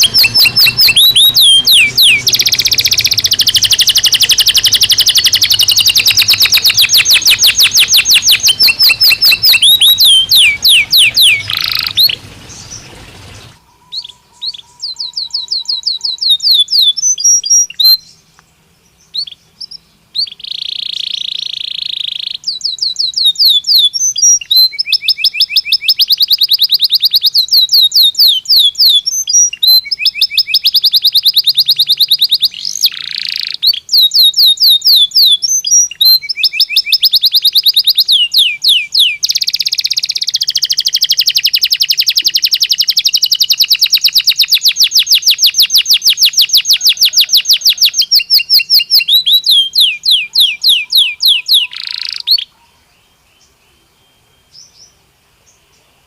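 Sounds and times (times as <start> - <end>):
canary trilling: 0.0 - 18.2, 19.1 - 52.6.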